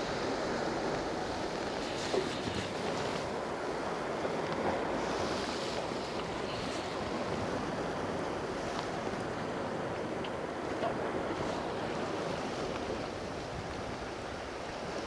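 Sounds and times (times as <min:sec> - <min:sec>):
waves washing on rocky shore: 0:00.0 - 0:15.0.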